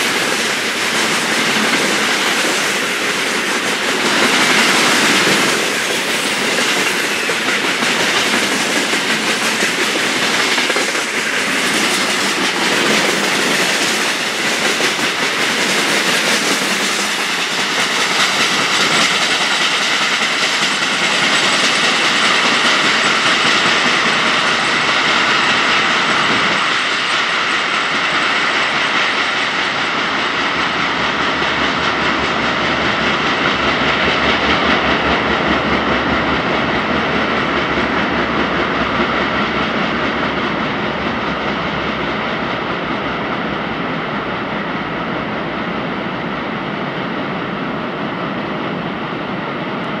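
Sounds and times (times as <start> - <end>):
train wheels on rails: 0.0 - 50.0.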